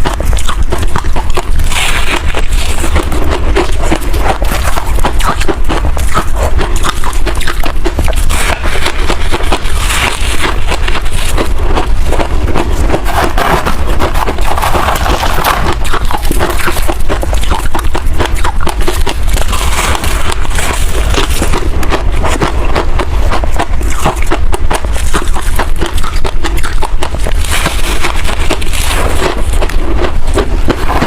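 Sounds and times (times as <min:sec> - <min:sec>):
crunching ice: 0:00.0 - 0:31.0.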